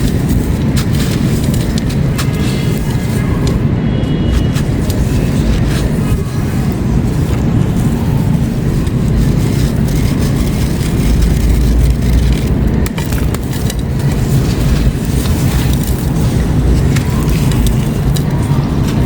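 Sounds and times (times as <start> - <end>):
concrete crunching and grinding: 0.0 - 19.0.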